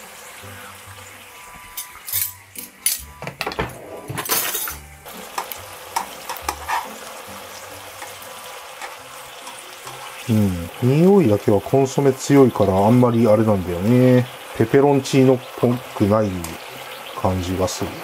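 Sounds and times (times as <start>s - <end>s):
water boiling in a pan: 0.0s - 2.7s, 5.0s - 18.0s.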